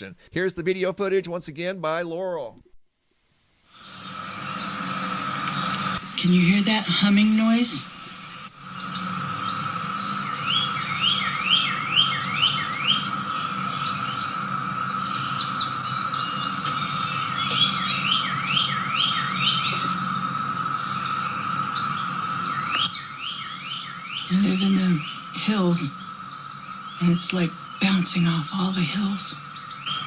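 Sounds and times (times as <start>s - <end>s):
birds chirping: 3.7s - 30.0s
low humming drone: 3.8s - 30.0s.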